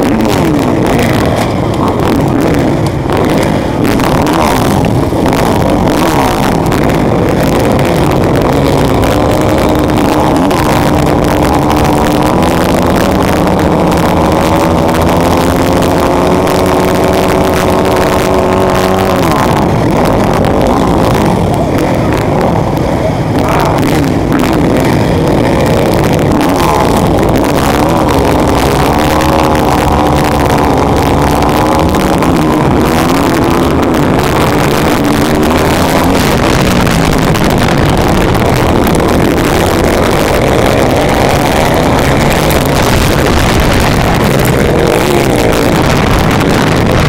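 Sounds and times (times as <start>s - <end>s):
motorbike engine revving: 0.0s - 47.0s
pack of motorbike engines: 0.0s - 47.0s.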